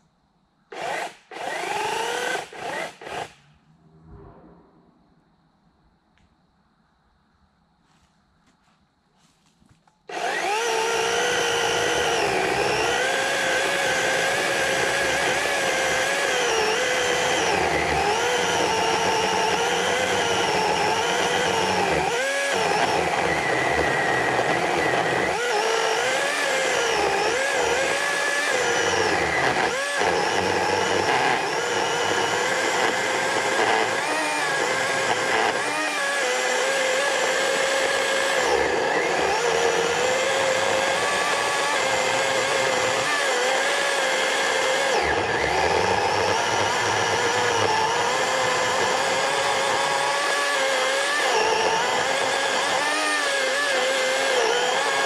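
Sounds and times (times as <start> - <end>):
chainsaw cutting wood: 0.7 - 3.5, 10.1 - 55.0.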